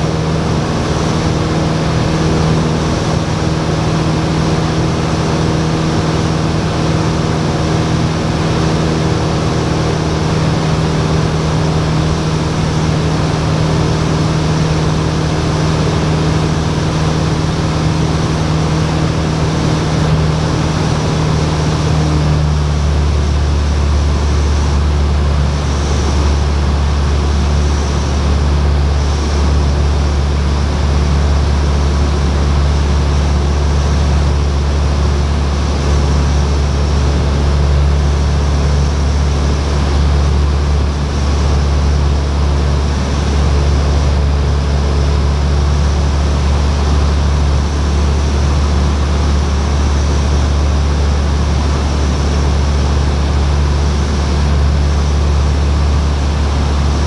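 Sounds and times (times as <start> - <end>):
airplane engine droning: 0.0 - 57.0.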